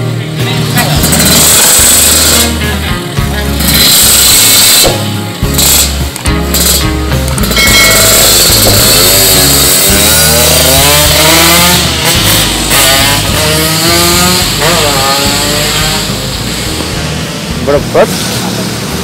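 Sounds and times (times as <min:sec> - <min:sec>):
two-stroke engine revving: 0:00.4 - 0:19.0.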